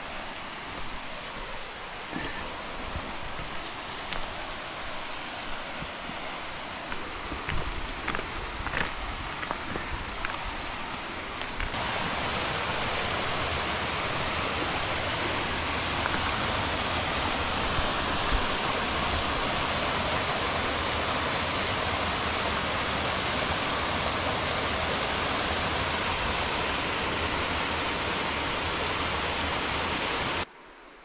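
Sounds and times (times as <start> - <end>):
creek rushing over rocks: 0.0 - 30.5.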